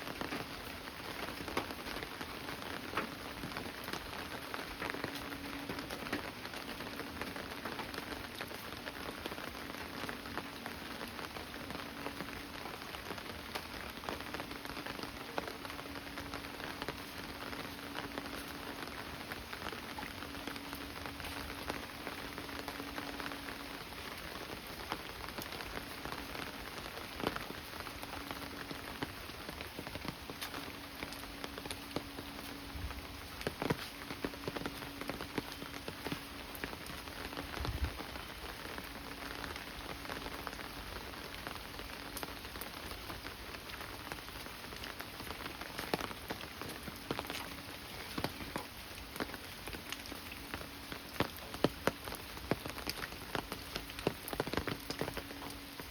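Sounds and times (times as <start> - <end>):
rain falling: 0.0 - 55.9
sharp raindrop taps: 0.1 - 55.9.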